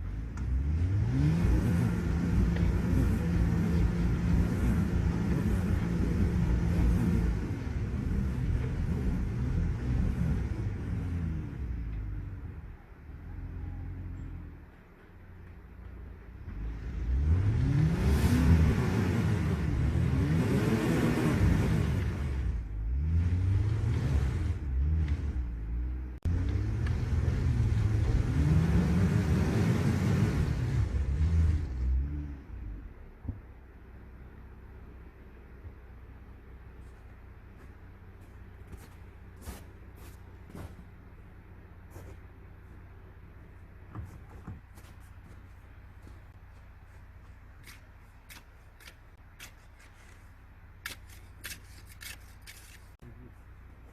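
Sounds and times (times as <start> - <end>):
pickup engine running low rumble: 0.0 - 53.9.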